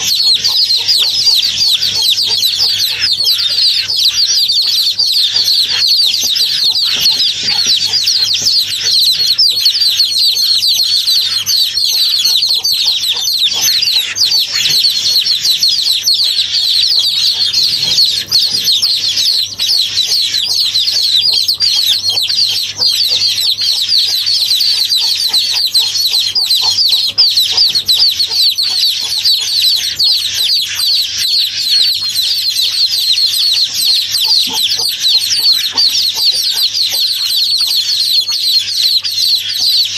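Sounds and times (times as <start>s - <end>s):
birds peeping chorus: 0.0s - 39.9s.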